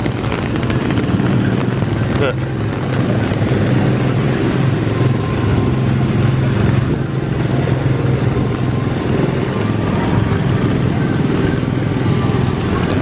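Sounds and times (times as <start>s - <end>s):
rain: 0.0s - 13.0s
trains running on track: 0.0s - 13.0s.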